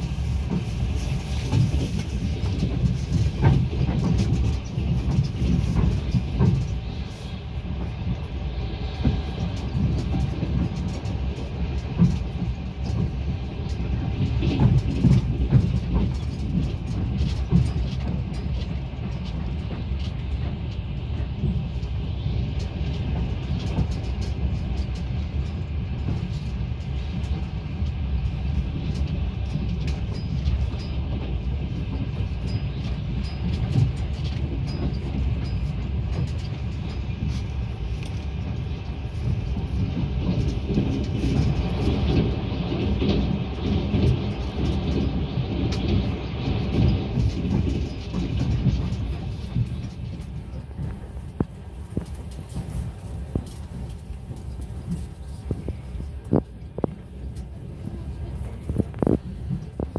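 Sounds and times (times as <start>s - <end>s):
small rattles and clicks: 0.0s - 59.9s
train rumbling inside coach: 0.0s - 59.9s.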